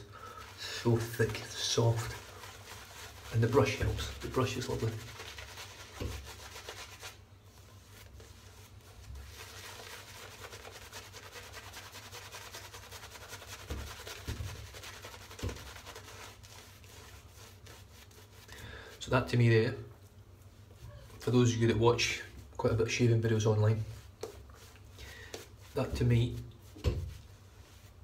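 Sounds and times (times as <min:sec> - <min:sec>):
shaving brush swirling lather: 0:00.0 - 0:19.0, 0:20.6 - 0:28.0.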